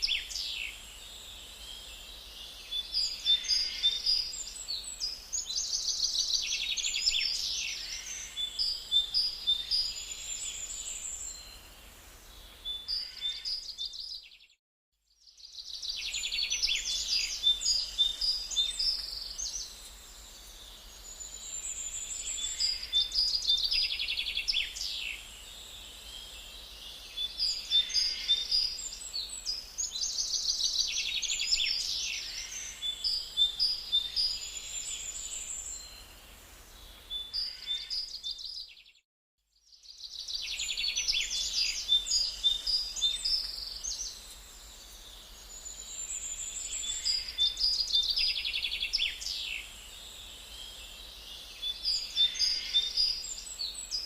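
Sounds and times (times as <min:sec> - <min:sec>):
songbirds singing and calling: 0:00.0 - 0:14.6, 0:15.2 - 0:39.0, 0:39.6 - 0:54.0.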